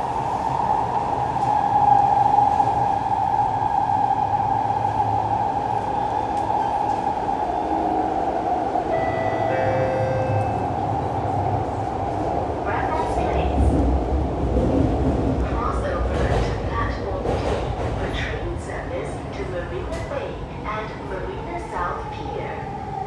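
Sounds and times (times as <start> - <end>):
train wheels roaring in tunnel: 0.0 - 23.0.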